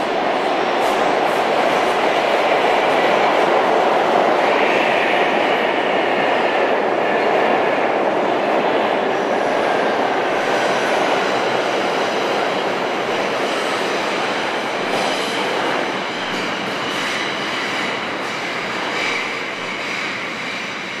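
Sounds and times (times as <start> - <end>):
subway train rattle and rumble: 0.0 - 21.0.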